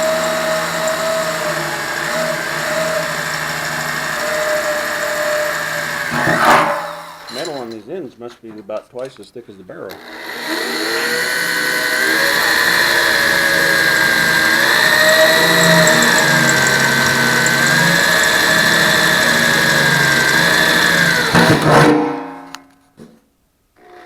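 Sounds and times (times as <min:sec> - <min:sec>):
electric drill boring through metal: 0:00.0 - 0:07.8, 0:09.9 - 0:21.7, 0:23.8 - 0:24.0.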